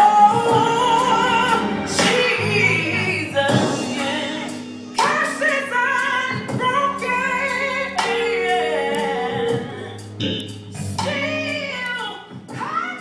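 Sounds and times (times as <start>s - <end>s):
musical accompaniment: 0.0s - 13.0s
woman singing gospel song: 0.0s - 13.0s.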